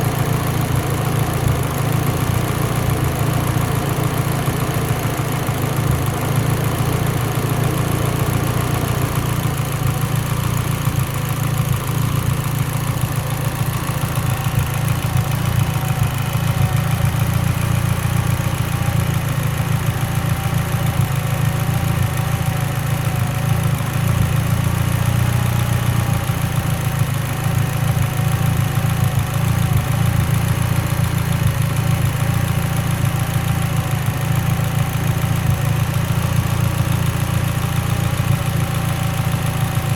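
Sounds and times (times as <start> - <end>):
car engine idling with misfire: 0.0 - 39.9.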